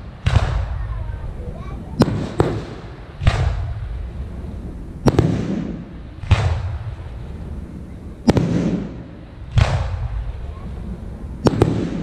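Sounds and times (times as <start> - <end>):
firework booms with echo: 0.0 - 12.0.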